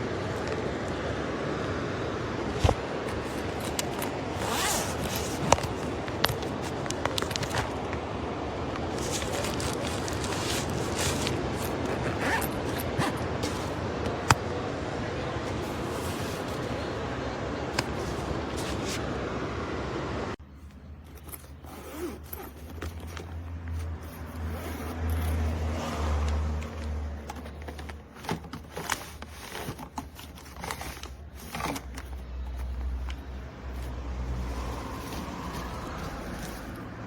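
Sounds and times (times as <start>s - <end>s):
handling clicks and scrapes: 2.3s - 14.6s, 15.3s - 17.1s, 17.7s - 19.2s, 20.4s - 37.0s.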